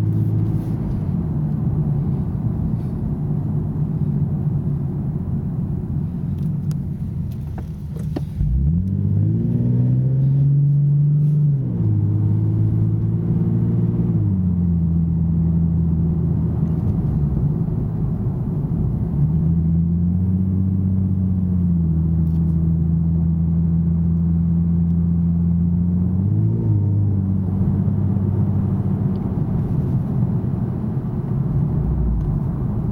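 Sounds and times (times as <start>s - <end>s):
car engine accelerating and cruising: 0.0s - 32.9s.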